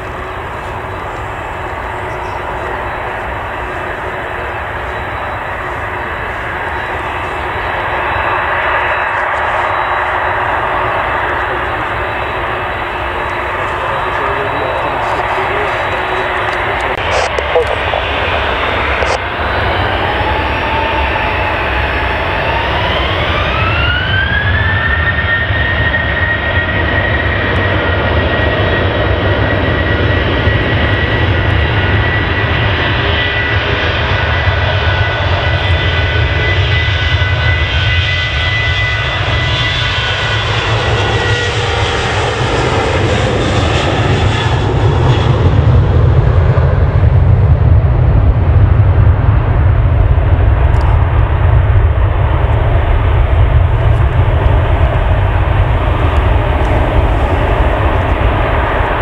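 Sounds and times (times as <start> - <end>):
jet engine noise with whine: 0.0 - 59.0
low aircraft rumble: 0.0 - 59.0.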